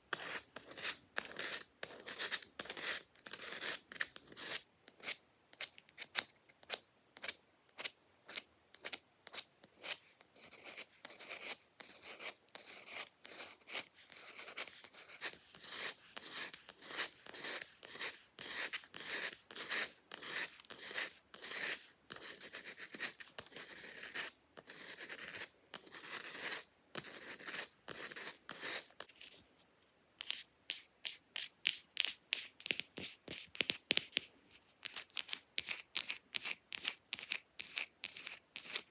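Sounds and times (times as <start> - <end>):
fake nails scratching a surface: 0.2 - 38.9.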